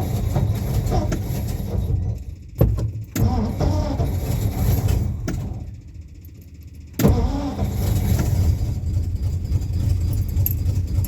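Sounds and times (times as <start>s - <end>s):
engine cranking: 0.0s - 11.0s
engine running unevenly: 0.0s - 11.0s.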